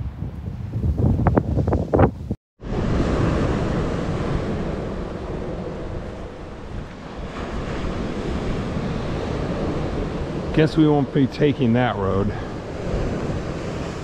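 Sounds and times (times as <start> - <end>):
wind buffeting microphone: 0.0 - 14.0
waves rushing on shore: 2.6 - 14.0.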